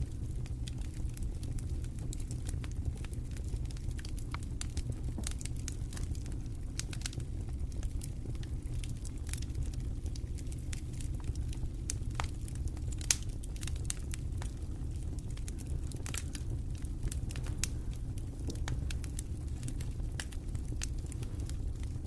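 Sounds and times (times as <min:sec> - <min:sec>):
fire low rumble: 0:00.0 - 0:22.0
wood fire crackling and popping: 0:00.0 - 0:22.0.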